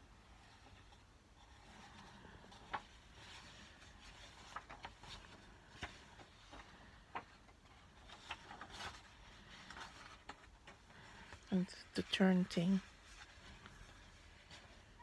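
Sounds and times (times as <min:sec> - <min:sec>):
magazine pages turning: 0:00.6 - 0:15.0.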